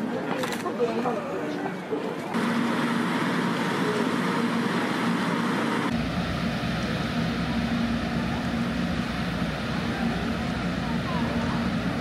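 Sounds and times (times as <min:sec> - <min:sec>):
rail yard hum and rushing: 0:01.6 - 0:12.0.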